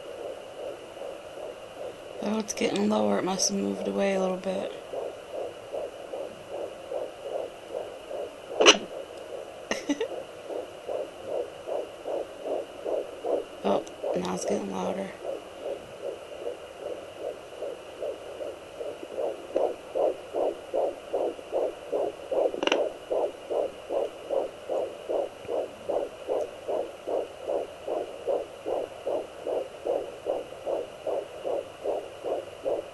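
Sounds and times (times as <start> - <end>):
fetal heartbeat whooshing pulses: 0.0 - 32.9
steady high whine: 0.0 - 32.9.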